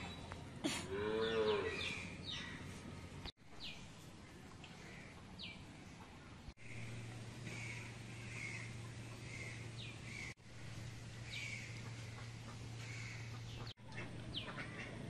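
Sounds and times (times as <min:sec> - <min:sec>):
birds calling: 0:00.0 - 0:15.0
steady low hum: 0:00.0 - 0:15.0.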